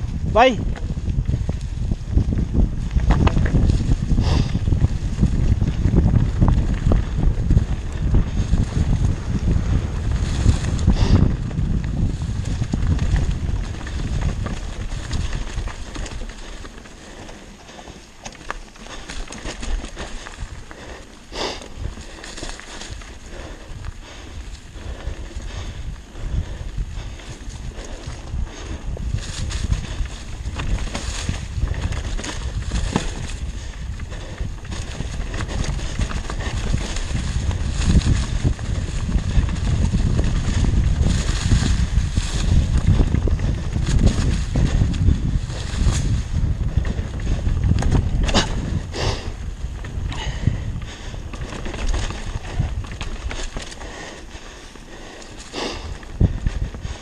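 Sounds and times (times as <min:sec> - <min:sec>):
bike clicks and rattles: 0:00.0 - 0:57.0
bike tyres on dirt trail: 0:00.0 - 0:57.0
wind rumbling on microphone: 0:00.0 - 0:57.0.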